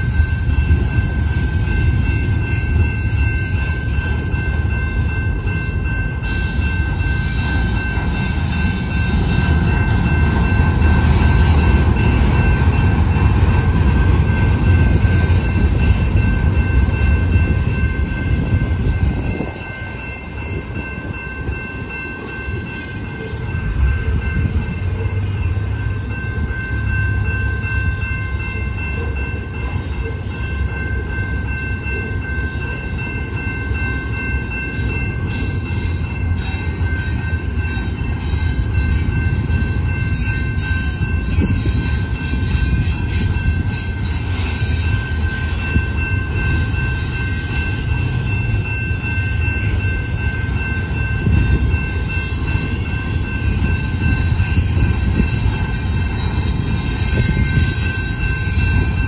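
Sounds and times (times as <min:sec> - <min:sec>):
high-pitched ringing tones: 0:00.0 - 0:59.0
train wheels rumbling on rails: 0:00.0 - 0:59.0.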